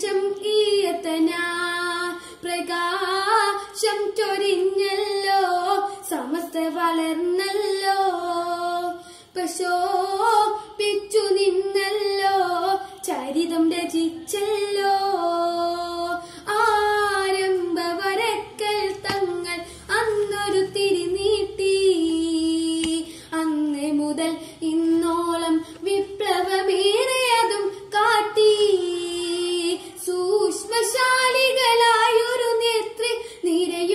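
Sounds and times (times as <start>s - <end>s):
boy singing: 0.0s - 33.9s.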